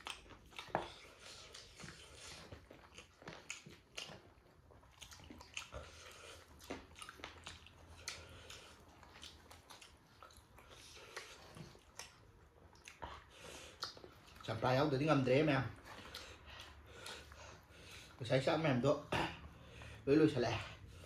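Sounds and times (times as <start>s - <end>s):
person chewing chicken: 0.0s - 18.2s.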